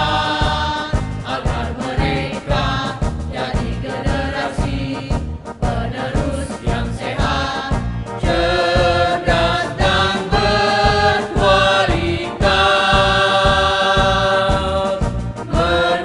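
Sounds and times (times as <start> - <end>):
accompaniment with steady beat: 0.0 - 16.0
choir singing: 0.0 - 16.0.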